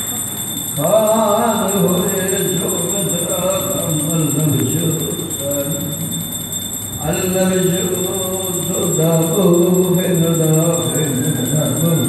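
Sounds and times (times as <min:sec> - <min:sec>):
faint steady high tone: 0:00.0 - 0:12.0
man chanting a prayer: 0:00.8 - 0:06.3, 0:07.0 - 0:12.0.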